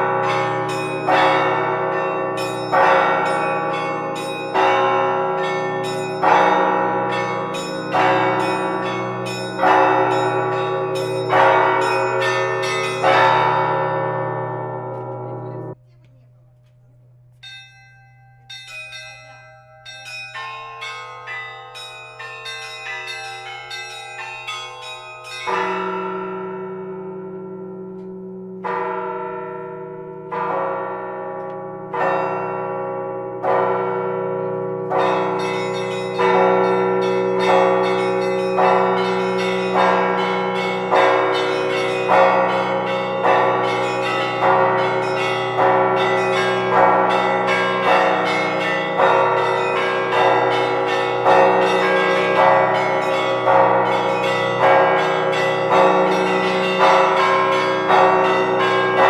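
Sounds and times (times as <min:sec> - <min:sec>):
church bells ringing: 0:00.0 - 0:15.8, 0:17.1 - 0:59.0.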